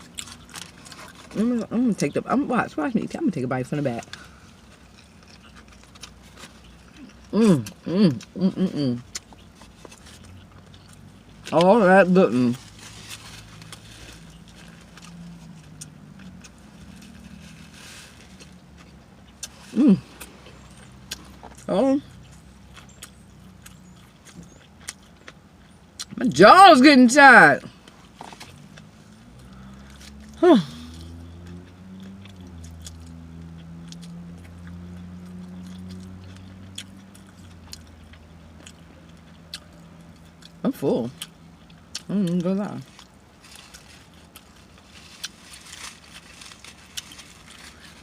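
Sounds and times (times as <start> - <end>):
chewing with mouth smacks: 0.0 - 1.4, 3.9 - 11.7, 12.6 - 26.2, 27.7 - 48.0
parked car hum: 0.0 - 48.0.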